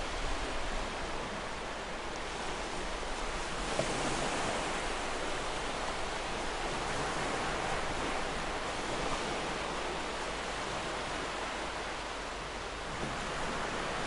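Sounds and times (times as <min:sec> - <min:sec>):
ocean waves washing: 0:00.0 - 0:14.0.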